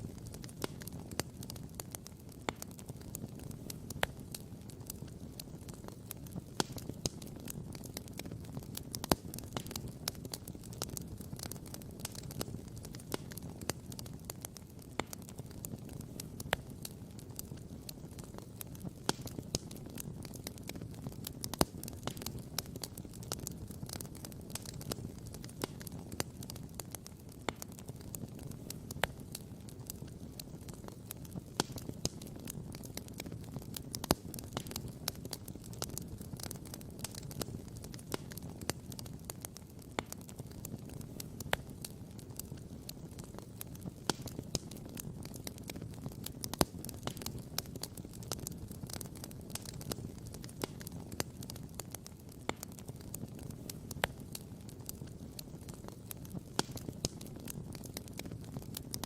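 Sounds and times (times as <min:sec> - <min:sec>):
campfire crackling and popping: 0:00.0 - 0:59.0
low fire rumble: 0:00.0 - 0:59.0.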